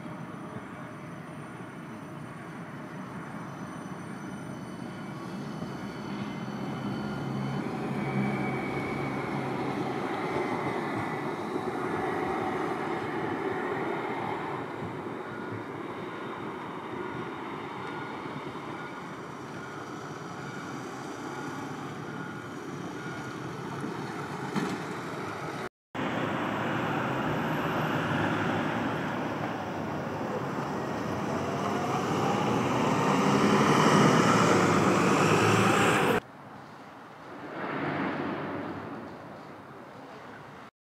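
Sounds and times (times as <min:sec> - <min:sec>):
tram motor whine rising: 0:00.0 - 0:36.2
tram running: 0:00.0 - 0:36.2.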